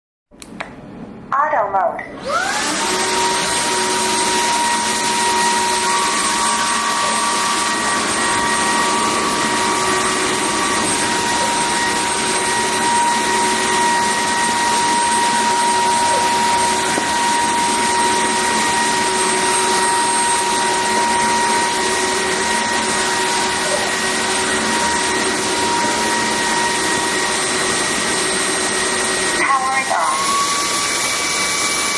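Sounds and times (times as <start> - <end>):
floor vacuum whirring: 2.1 - 31.9.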